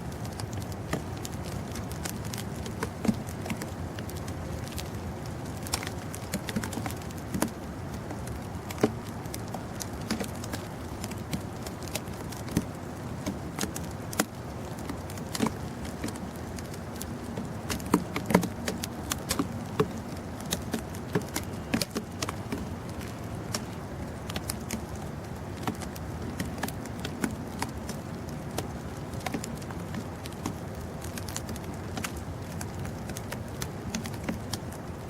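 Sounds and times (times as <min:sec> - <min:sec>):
low rumble of blizzard: 0:00.0 - 0:35.0
sharp ticks and patters: 0:00.0 - 0:35.0.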